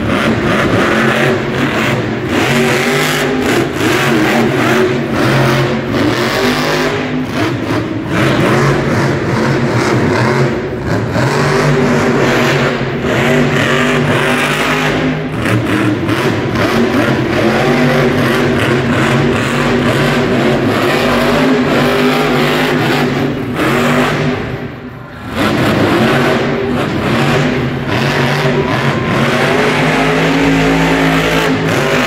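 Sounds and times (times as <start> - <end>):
monster truck engine revving: 0.0 - 32.0.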